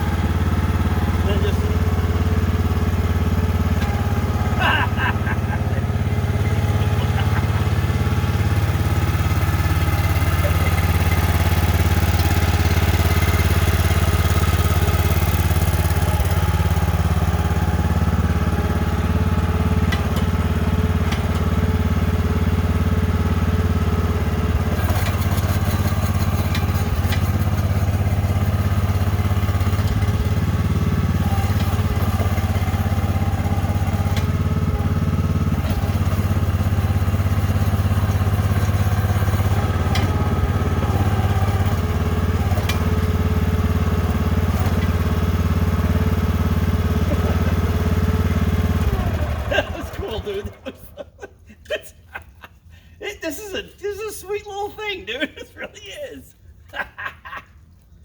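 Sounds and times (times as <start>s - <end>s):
excavator engine running: 0.0s - 51.7s.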